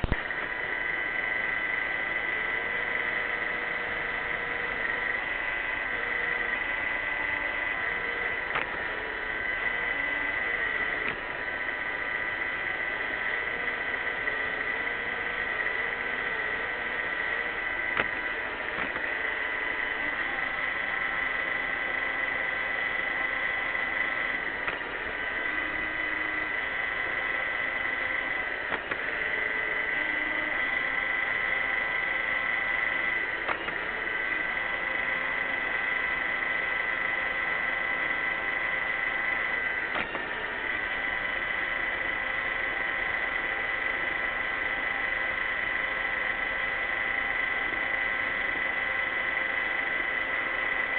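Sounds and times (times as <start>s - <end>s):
robot vacuum running: 0.0s - 50.9s.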